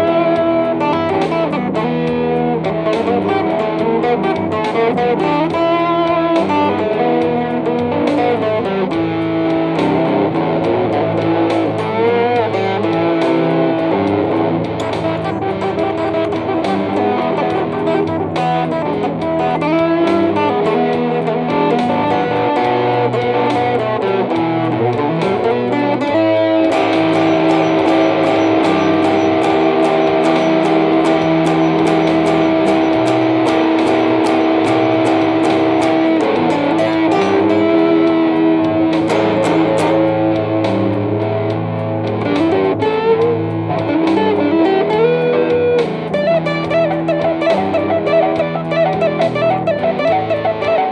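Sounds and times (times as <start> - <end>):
electric guitar playing blues: 0.0 - 50.9.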